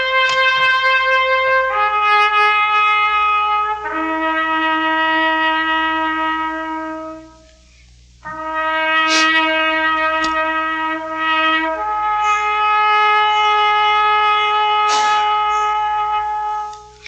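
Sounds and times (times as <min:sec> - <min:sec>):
trumpet long held notes: 0:00.0 - 0:17.0.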